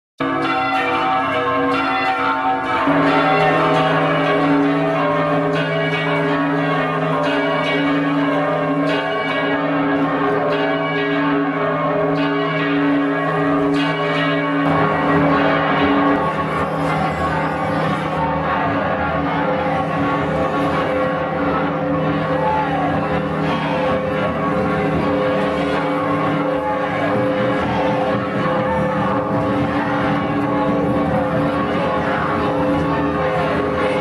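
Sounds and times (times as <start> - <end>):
church bells ringing: 0.2 - 34.0.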